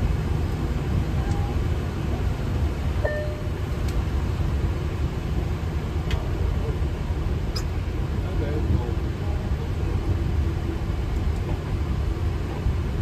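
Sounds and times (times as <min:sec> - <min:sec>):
aircraft cabin rumble and hiss: 0:00.0 - 0:13.0.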